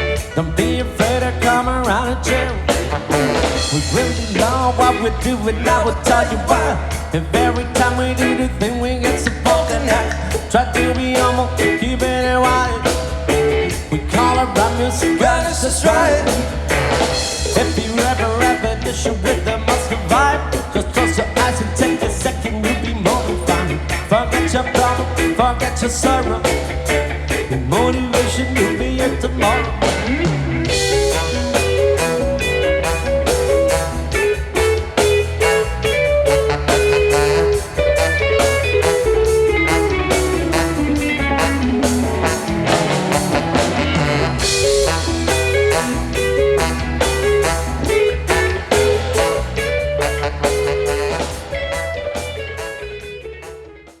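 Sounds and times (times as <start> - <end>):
rock song with guitar: 0.0 - 54.0.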